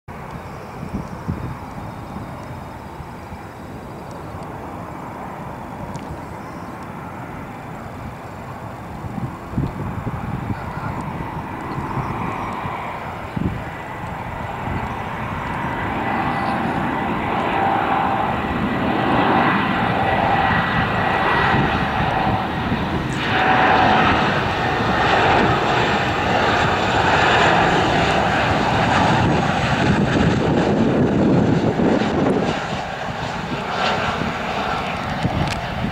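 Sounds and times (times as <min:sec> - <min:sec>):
jet engines roaring with whine: 0:00.1 - 0:35.9.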